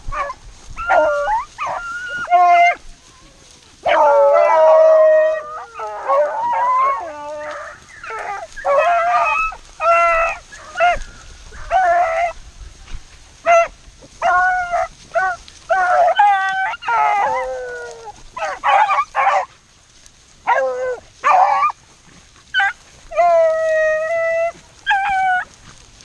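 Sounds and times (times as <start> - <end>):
beagles baying: 0.0 - 12.4, 13.3 - 19.6, 20.4 - 25.8.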